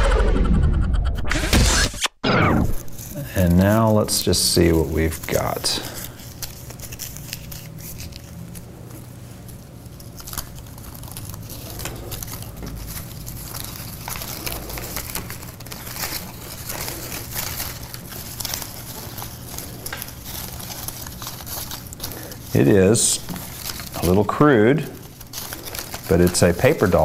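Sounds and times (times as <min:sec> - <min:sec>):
paper rustling and crinkling: 0:02.8 - 0:27.0.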